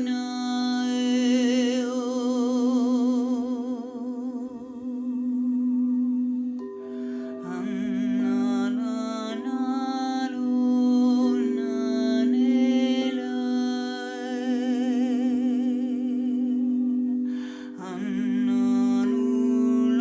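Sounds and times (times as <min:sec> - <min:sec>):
singing bowls drone: 0:00.0 - 0:20.0
wordless voice singing: 0:00.0 - 0:20.0.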